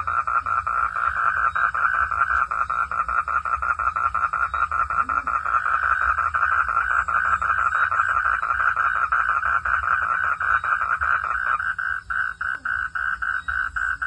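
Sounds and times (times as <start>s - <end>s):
frog calling in rapid pulses: 0.0s - 14.0s.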